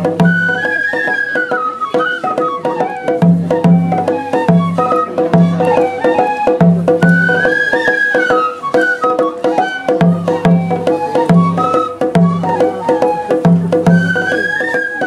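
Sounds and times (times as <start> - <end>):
taiko drum strokes: 0.0 - 15.0
transverse flutes playing melody: 0.0 - 15.0.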